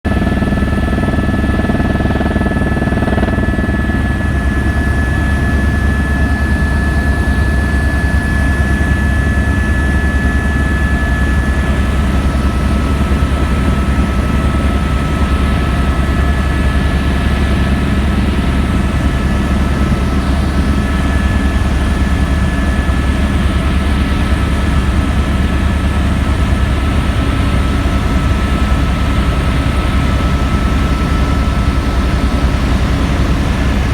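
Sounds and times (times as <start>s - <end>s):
helicopter rotor beat: 0.0s - 33.9s.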